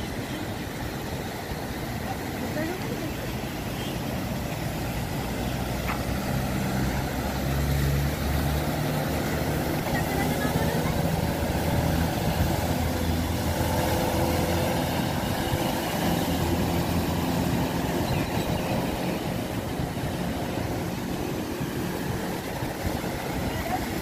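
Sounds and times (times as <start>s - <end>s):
vehicle engine running: 4.3s - 24.0s.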